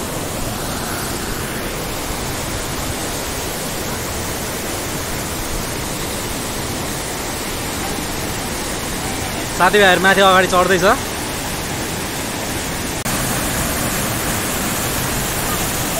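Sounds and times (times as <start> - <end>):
stream rushing over boulders: 0.0 - 15.9.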